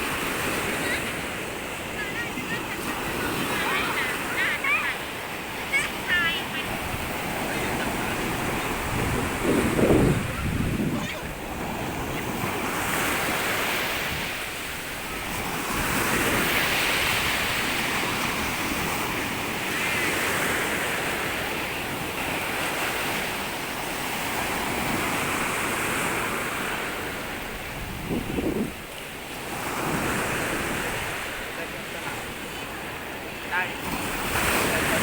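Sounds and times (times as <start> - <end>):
waves washing onto sandy beach: 0.0 - 35.0.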